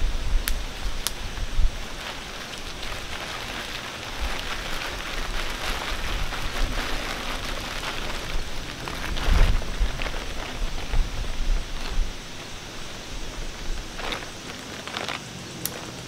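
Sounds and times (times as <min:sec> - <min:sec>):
stiff plastic liner crinkling: 0:01.8 - 0:16.0.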